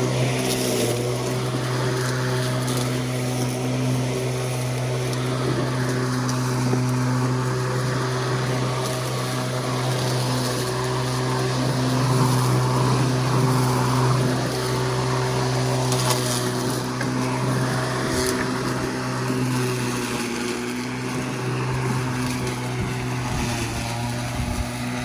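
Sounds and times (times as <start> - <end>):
electric lawn mower humming: 0.0 - 25.0.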